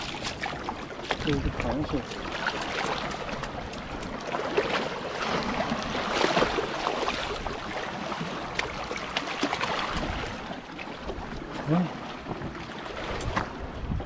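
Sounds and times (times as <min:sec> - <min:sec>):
water splashing around shoes: 0:00.0 - 0:13.6.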